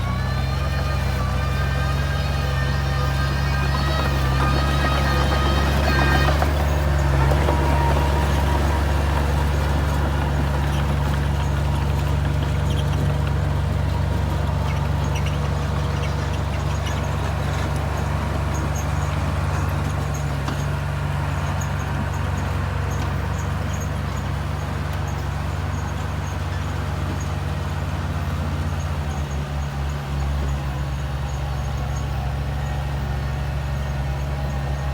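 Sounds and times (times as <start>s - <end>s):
bulldozer diesel engine droning: 0.0s - 34.9s.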